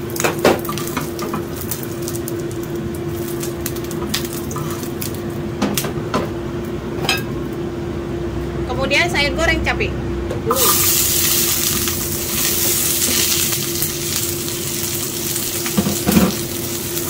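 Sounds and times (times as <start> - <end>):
steady hum and hiss: 0.0 - 17.0.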